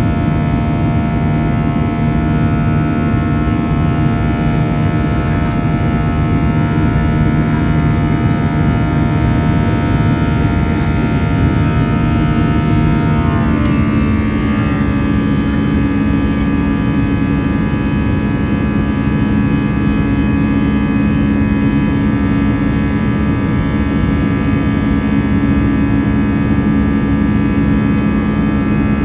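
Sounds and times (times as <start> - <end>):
jet engines droning: 0.0 - 29.0.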